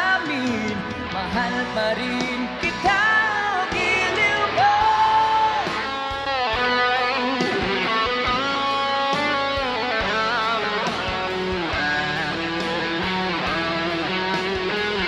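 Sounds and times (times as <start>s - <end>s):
electric guitar lead melody: 0.0s - 15.0s
steady drum beat: 0.0s - 15.0s
strummed guitar: 0.0s - 15.0s.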